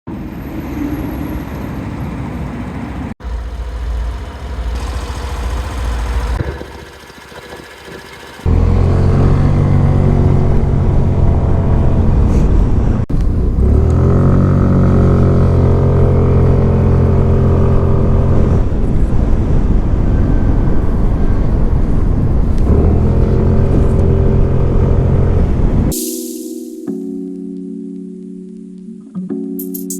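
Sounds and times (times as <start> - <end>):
scooter engine and exhaust: 0.2 - 26.0.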